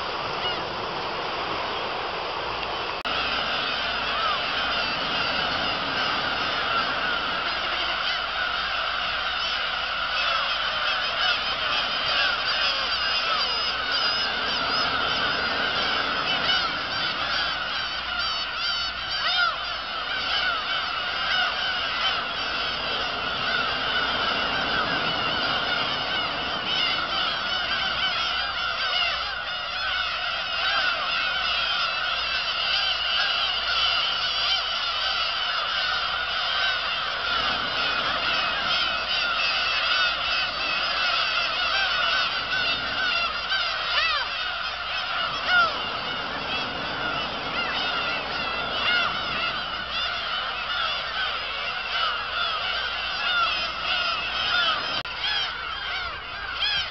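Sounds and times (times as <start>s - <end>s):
loud gull call: 0.0s - 0.8s, 2.9s - 56.9s
gull colony calling: 0.0s - 2.0s, 2.7s - 56.9s.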